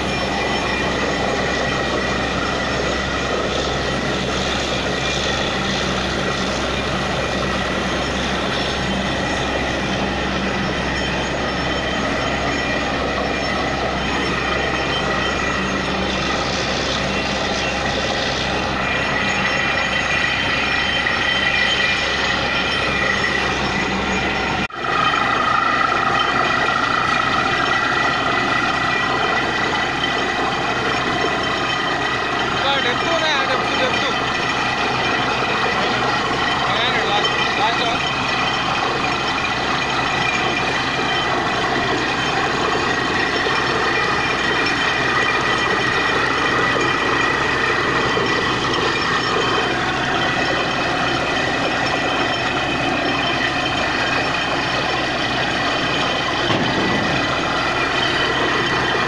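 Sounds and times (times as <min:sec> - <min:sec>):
drilling rig engine and compressor: 0:00.0 - 0:59.0
high whine: 0:00.0 - 0:59.0.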